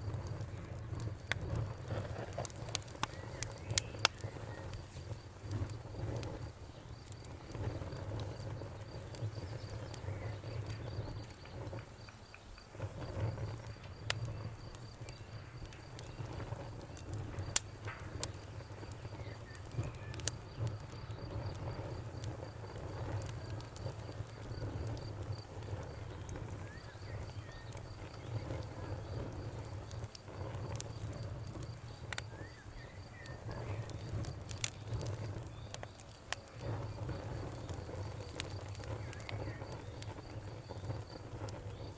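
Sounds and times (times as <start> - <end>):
campfire crackling and popping: 0.0 - 41.9
cricket chirping: 2.0 - 41.9.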